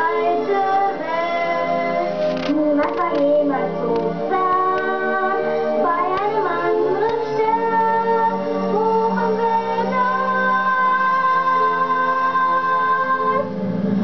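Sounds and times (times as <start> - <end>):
high singing voice: 0.0 - 13.6
instrumental backing: 0.0 - 14.0.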